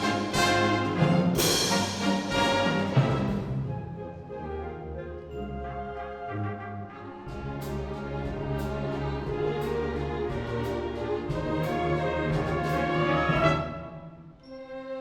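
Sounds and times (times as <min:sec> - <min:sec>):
orchestral music with brass and strings: 0:00.0 - 0:15.0.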